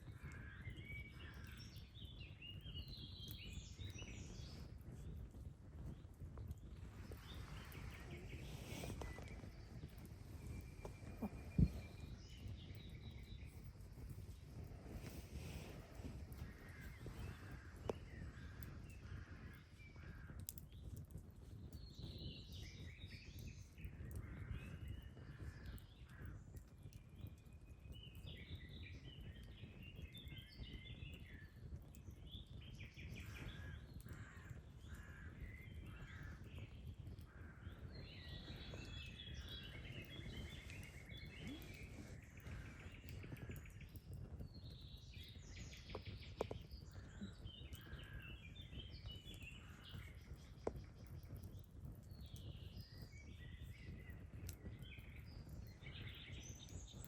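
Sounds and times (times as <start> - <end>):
birds singing and chirping: 0.2 - 5.3, 5.9 - 13.8, 21.7 - 57.0.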